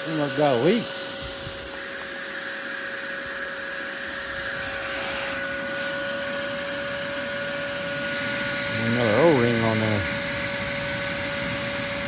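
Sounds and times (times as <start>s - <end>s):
electric air blower running: 0.0s - 12.0s.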